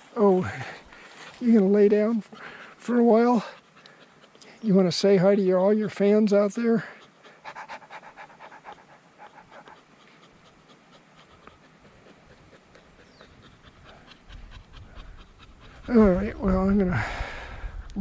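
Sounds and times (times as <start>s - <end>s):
dog panting: 0.1s - 18.0s.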